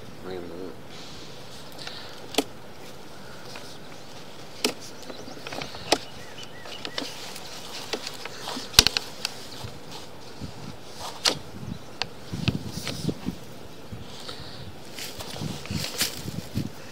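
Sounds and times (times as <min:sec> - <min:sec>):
faint steady hiss: 0:00.0 - 0:16.9.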